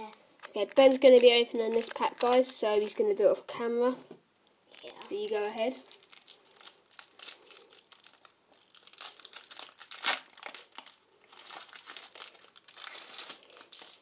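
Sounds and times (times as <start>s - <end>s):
foil packet tearing and crinkling: 0.4s - 3.0s, 4.8s - 14.0s.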